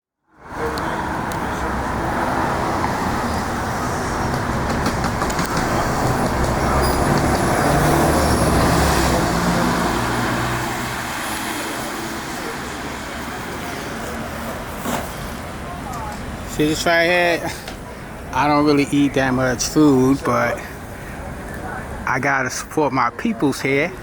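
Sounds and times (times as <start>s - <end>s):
street traffic rumbling: 0.3s - 24.0s
heavy vehicle passing: 0.4s - 22.7s.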